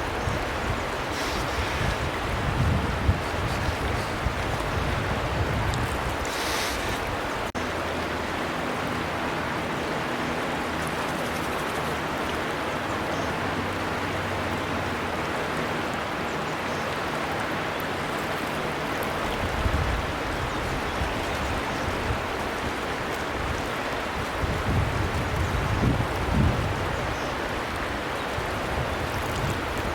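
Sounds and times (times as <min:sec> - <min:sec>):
river water flowing over stones: 0:00.0 - 0:29.9.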